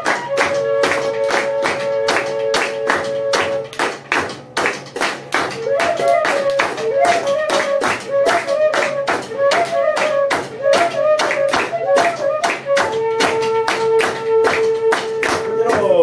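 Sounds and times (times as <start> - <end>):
percussion beat: 0.0 - 16.0.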